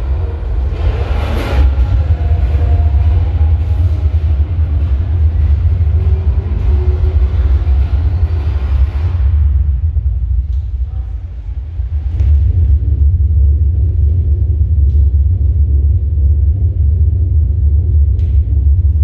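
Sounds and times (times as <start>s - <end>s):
deep rumble over loudspeakers: 0.0s - 19.0s.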